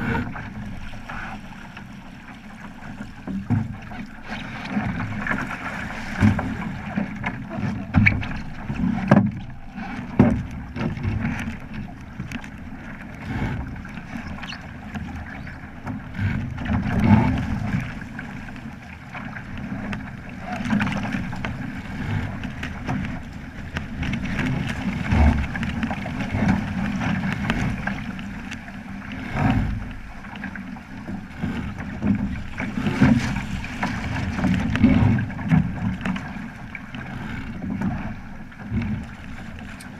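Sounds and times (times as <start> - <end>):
rushing water wash: 0.0 - 39.9
water slapping against boat hull: 0.0 - 39.9.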